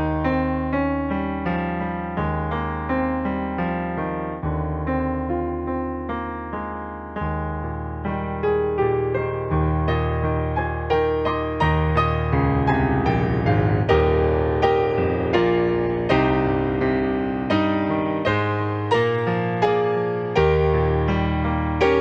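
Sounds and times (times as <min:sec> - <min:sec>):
calm piano music: 0:00.0 - 0:22.0.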